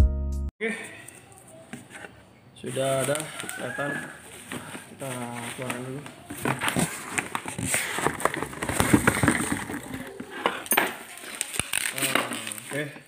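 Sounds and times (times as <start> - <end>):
plastic and cardboard rustling: 1.4 - 13.0.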